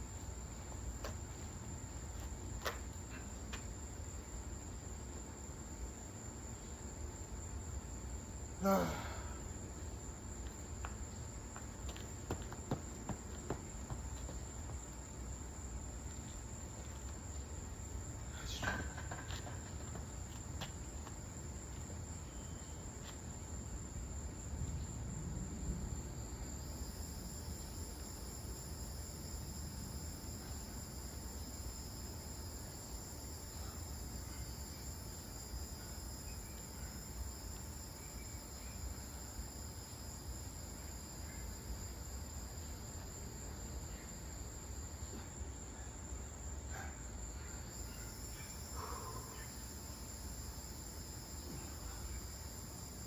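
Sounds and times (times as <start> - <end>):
crickets chirping: 0.0 - 53.0
insect chirping: 0.0 - 53.0.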